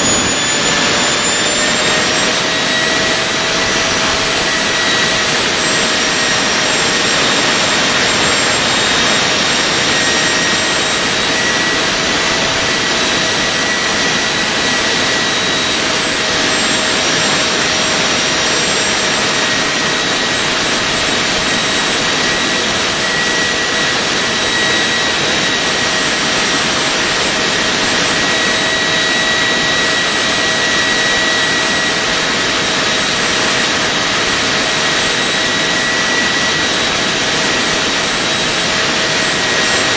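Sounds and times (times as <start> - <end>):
high-pitched engine whines: 0.0 - 39.9
turbojet exhaust rush: 0.0 - 39.9.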